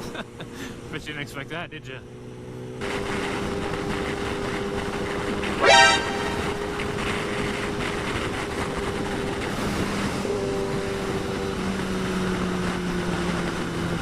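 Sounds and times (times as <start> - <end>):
motorcycle engine cruising: 2.0 - 14.0.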